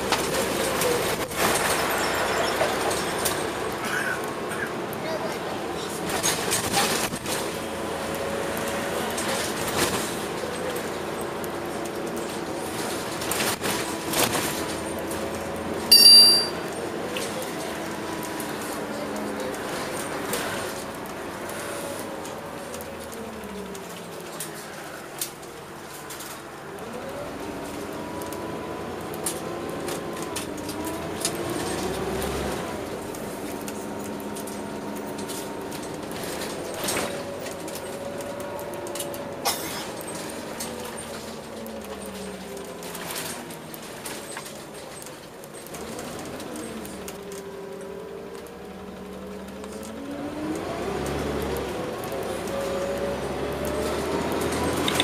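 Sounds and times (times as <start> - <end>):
bus engine accelerating: 0.0 - 55.0
bus interior rattles: 0.0 - 55.0.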